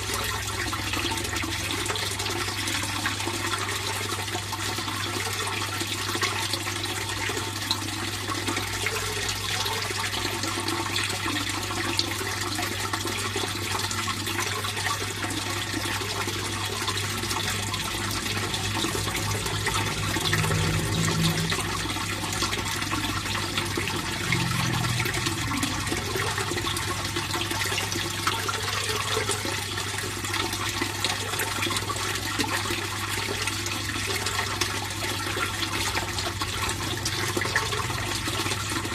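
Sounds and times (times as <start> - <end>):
water flowing and splashing: 0.0 - 38.9.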